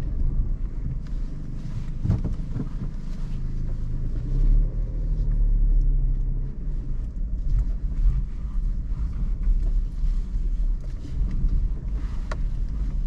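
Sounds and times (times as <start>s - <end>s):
car engine running: 0.0s - 13.0s
low road rumble: 0.0s - 13.0s.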